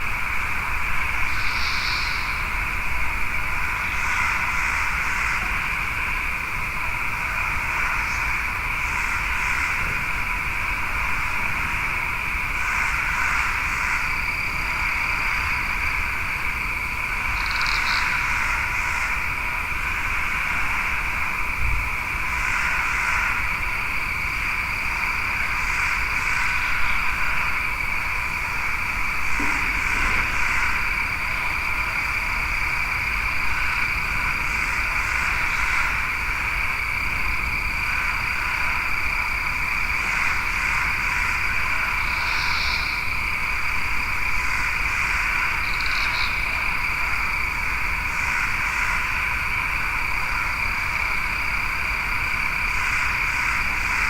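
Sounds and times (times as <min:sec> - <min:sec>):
dense trilling of frogs and insects: 0:00.0 - 0:54.0
thin steady high whine: 0:00.0 - 0:54.0.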